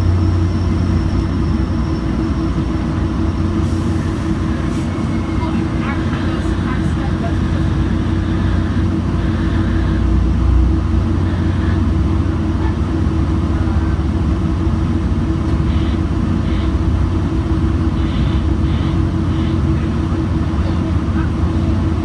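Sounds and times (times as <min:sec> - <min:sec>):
constant hum: 0:00.0 - 0:22.0
train rumbling: 0:00.0 - 0:22.0.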